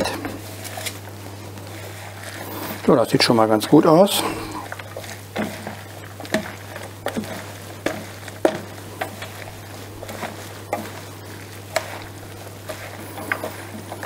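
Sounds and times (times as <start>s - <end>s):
wet squishing of kneaded potato: 0.5s - 14.0s.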